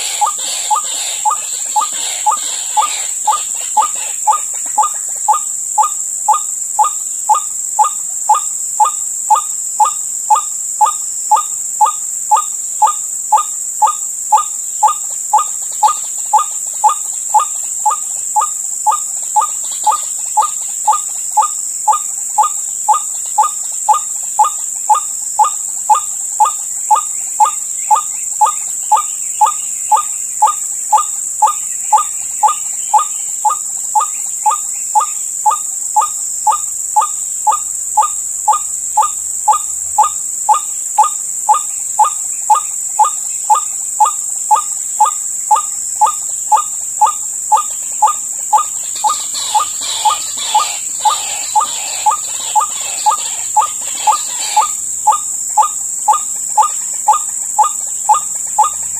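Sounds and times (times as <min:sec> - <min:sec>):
high insect drone: 0:00.0 - 0:58.9.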